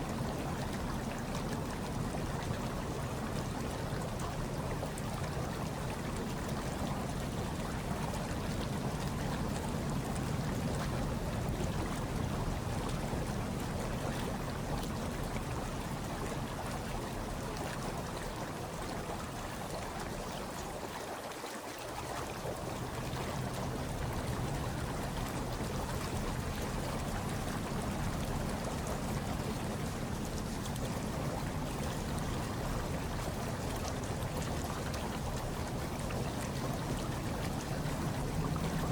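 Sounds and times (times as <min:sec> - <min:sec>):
hot tub water churning: 0:00.0 - 0:38.9.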